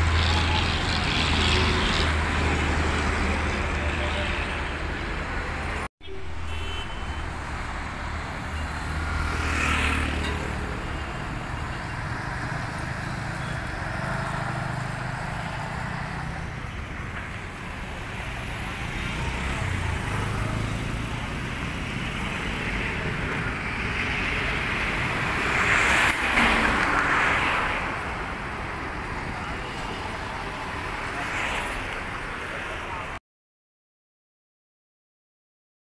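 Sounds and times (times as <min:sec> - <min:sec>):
diesel coach engines: 0:00.0 - 0:33.2
tyre and road noise: 0:00.0 - 0:33.2.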